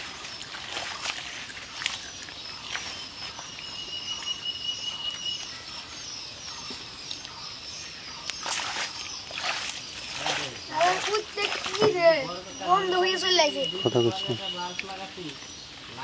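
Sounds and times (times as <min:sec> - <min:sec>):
birds chirping: 0:00.0 - 0:16.0
muddy water splashing: 0:00.0 - 0:16.0.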